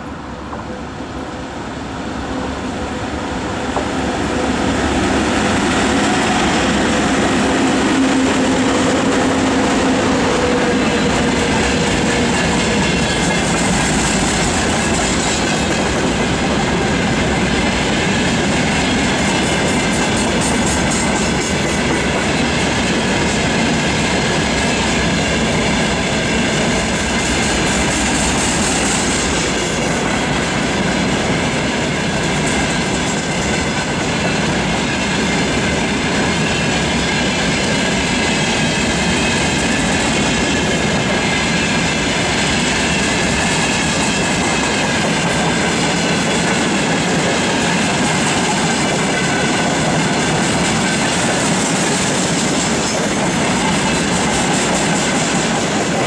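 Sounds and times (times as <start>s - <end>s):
electric locomotive passing: 0.0s - 56.0s
freight wagons rolling on rails: 2.3s - 56.0s.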